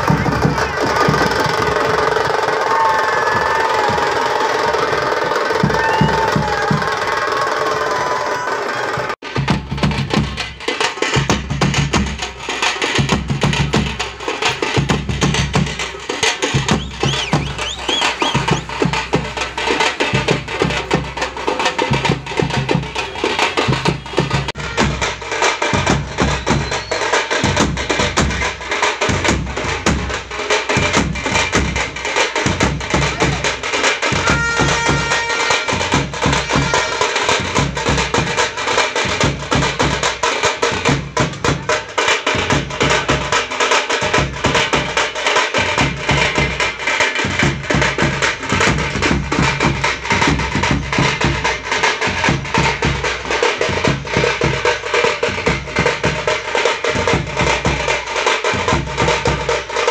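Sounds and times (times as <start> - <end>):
percussion-led dance music: 0.0 - 59.9.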